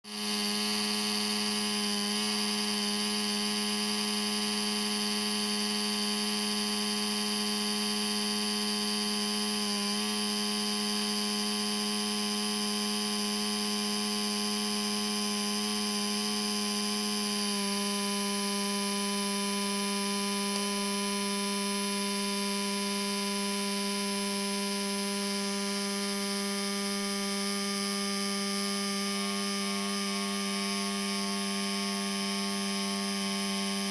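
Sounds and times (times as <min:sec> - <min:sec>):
laptop fan whine and buzz: 0:00.1 - 0:33.9.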